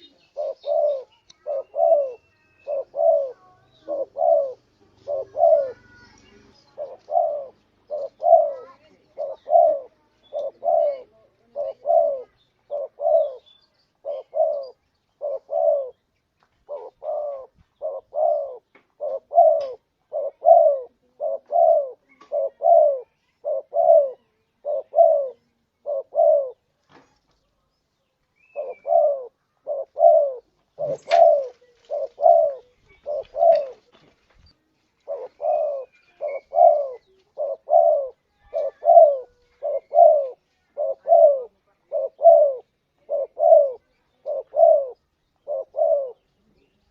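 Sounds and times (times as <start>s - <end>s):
dove cooing: 0.0s - 26.7s, 28.4s - 34.0s, 34.9s - 46.7s
small birds chirping: 0.0s - 46.9s.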